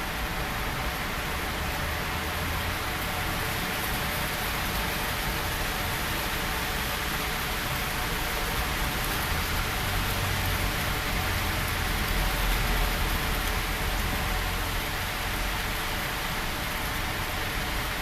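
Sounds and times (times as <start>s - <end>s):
heavy rain on hard surfaces: 0.0s - 18.0s.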